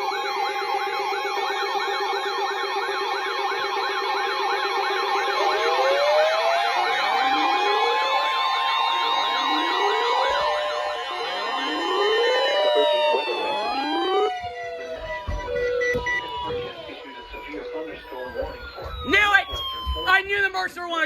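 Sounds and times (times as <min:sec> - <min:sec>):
slow rising siren wails: 0:00.0 - 0:21.0
warbling sirens: 0:00.0 - 0:21.0.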